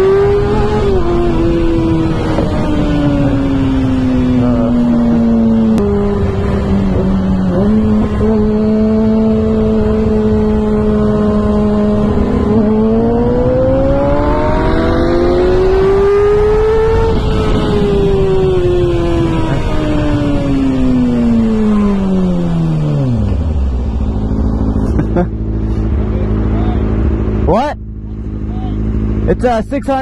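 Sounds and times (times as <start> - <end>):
wind rushing over microphone: 0.0 - 27.5
motorcycle engine revving: 0.0 - 30.0.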